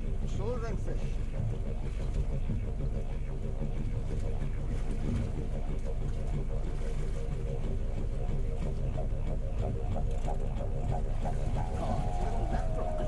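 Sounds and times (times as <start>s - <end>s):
outboard motor idling: 0.0s - 13.0s
water noise: 0.0s - 13.0s
wind: 0.0s - 13.0s.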